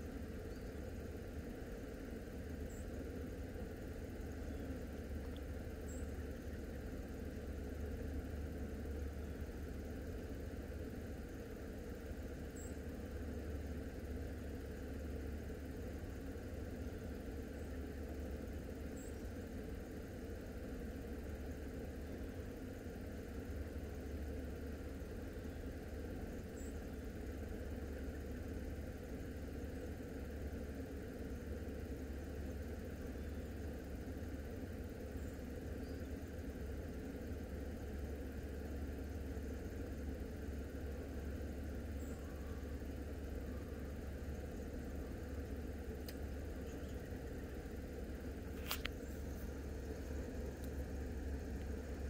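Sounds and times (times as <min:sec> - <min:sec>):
steady low hum and rumble: 0:00.0 - 0:52.0.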